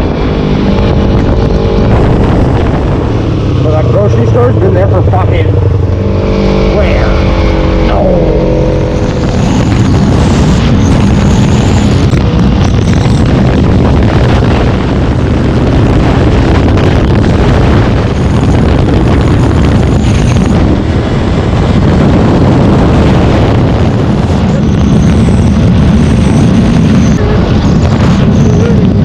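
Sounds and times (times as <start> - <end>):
motorcycle engine drone: 0.0 - 29.0
wind rush buffeting microphone: 0.0 - 29.0.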